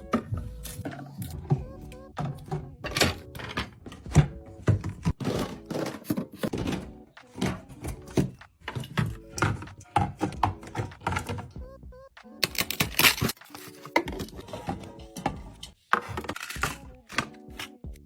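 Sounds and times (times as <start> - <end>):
items clunking and knocking: 0.0 - 11.6, 12.4 - 18.0.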